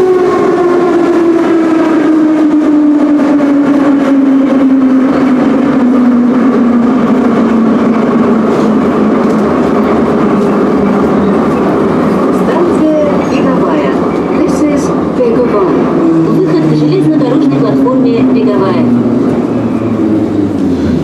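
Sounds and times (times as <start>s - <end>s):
train wheels clattering on rails: 2.5s - 21.0s.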